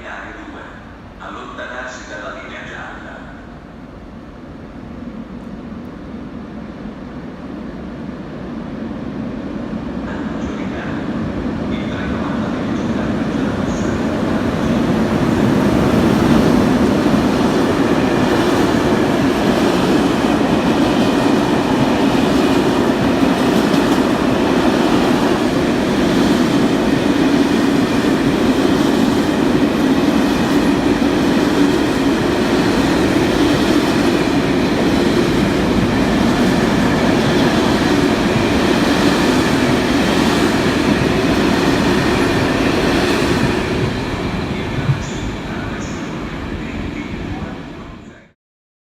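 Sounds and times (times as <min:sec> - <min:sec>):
train rumbling past: 0:00.0 - 0:48.3.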